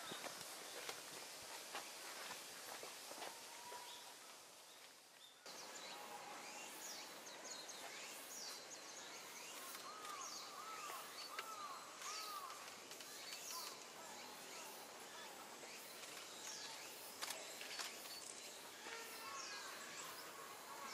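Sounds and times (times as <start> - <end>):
steady outdoor hiss: 0.0 - 20.9
small birds chirping: 3.8 - 20.9.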